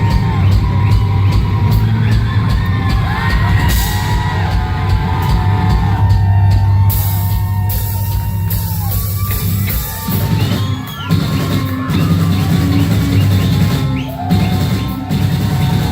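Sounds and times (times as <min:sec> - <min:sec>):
crowd whooping and shouting: 0:00.0 - 0:15.9
drums: 0:00.0 - 0:15.9.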